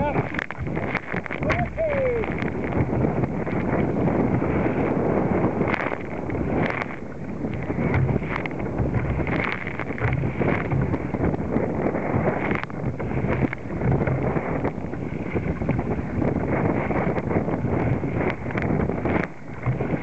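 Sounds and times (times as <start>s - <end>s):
waves slapping kayak: 0.0s - 20.0s
wind buffeting microphone: 0.0s - 20.0s.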